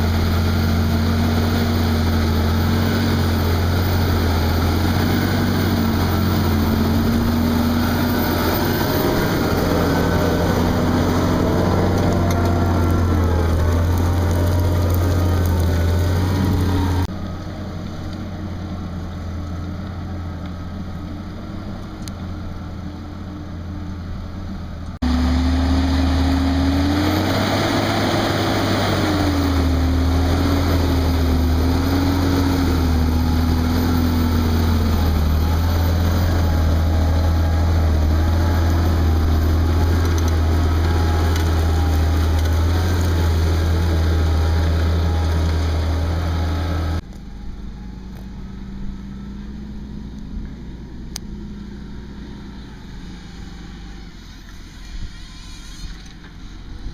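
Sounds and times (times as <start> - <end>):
rising wavering whine: 0.0 - 18.7, 25.0 - 56.9
tractor diesel engine droning: 0.0 - 56.9.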